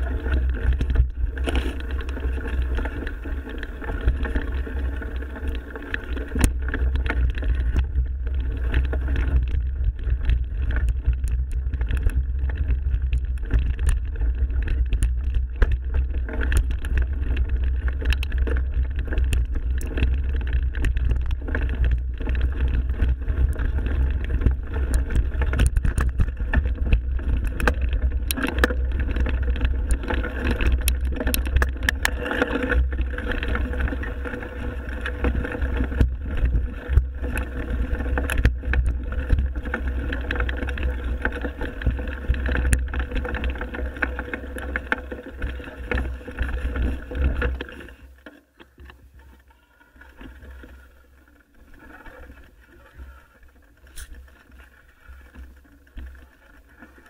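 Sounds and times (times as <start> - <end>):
bike clicks and rattles: 0.0 - 57.0
tyres rolling on ground: 0.0 - 57.0.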